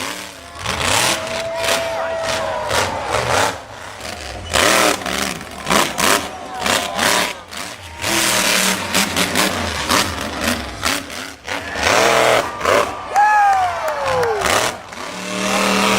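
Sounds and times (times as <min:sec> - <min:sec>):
monster truck engine revving: 0:00.0 - 0:15.9.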